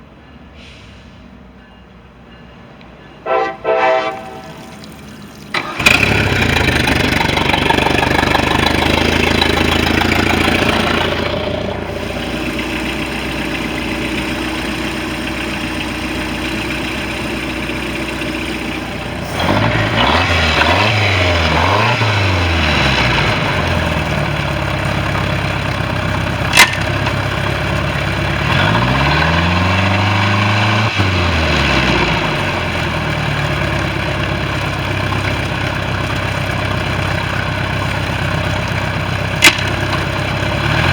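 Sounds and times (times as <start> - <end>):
boat engine idling and revving: 4.1 - 40.9.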